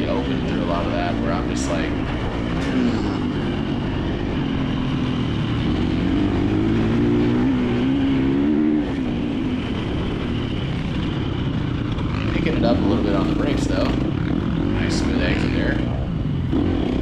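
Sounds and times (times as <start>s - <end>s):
dirt bike engine at low revs: 0.0s - 17.0s.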